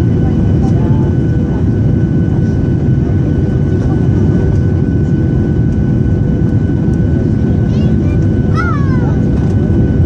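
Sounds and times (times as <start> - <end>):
jet engine roar and airflow: 0.0 - 10.0.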